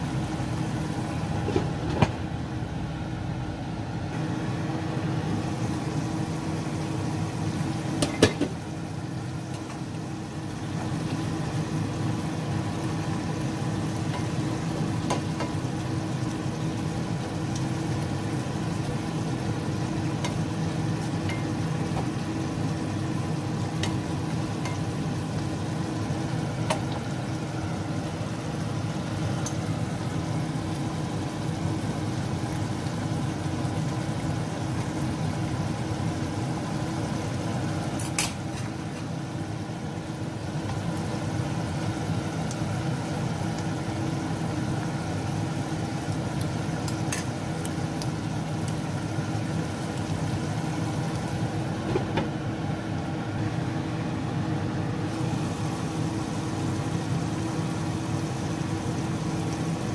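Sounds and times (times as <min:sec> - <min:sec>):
stew simmering and sizzling: 0:00.0 - 0:59.9.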